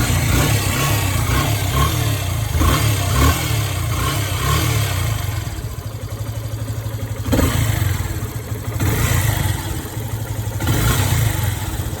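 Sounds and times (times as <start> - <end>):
motorcycle engine running low revs: 0.0 - 12.0.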